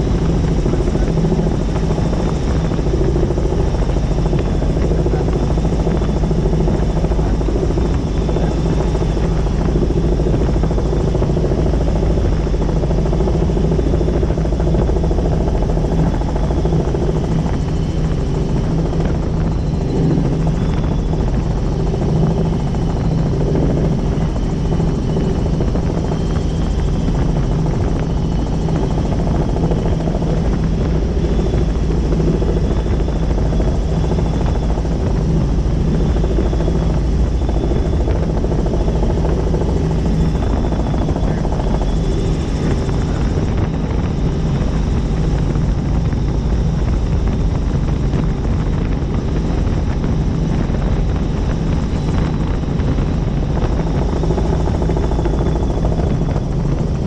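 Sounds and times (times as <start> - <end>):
helicopter rotor and engine noise: 0.0 - 57.0.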